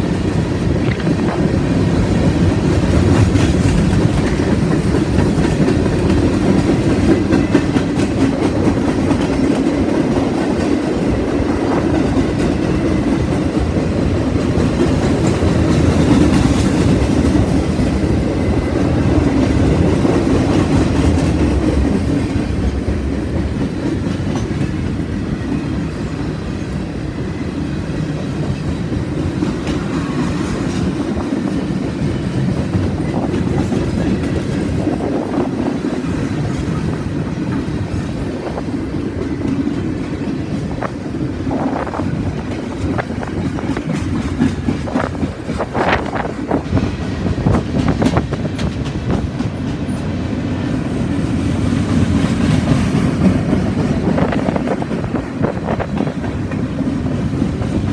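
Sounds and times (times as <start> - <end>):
clickety-clack over rail joints: 0.0 - 57.9
train wheels rumbling on rails: 0.0 - 57.9.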